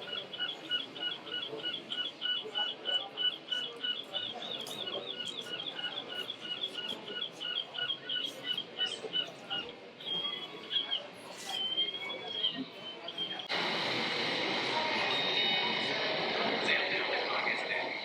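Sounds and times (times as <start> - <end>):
low murmur of hall noise: 0.0 - 18.0.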